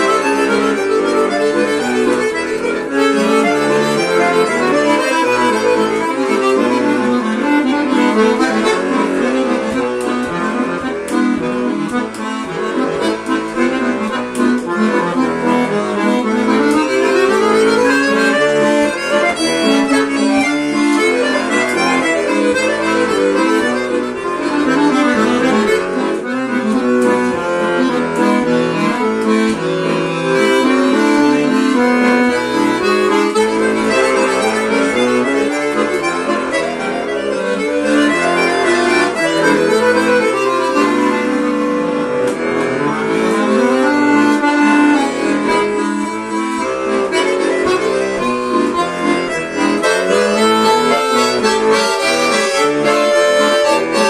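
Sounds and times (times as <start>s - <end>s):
button accordion playing: 0.0s - 54.0s.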